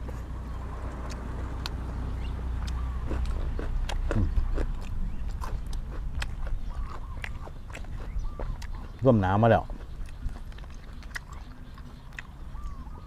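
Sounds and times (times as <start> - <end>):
person chewing food: 2.5 - 13.0.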